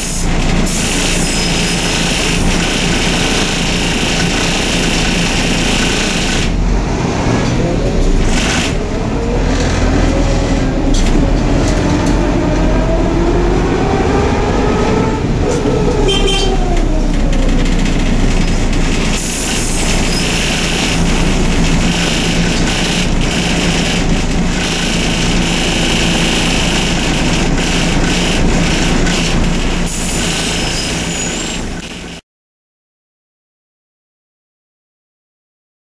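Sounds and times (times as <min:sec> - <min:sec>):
bus engine and road rumble: 0:00.0 - 0:32.2
rising whine: 0:00.7 - 0:29.6.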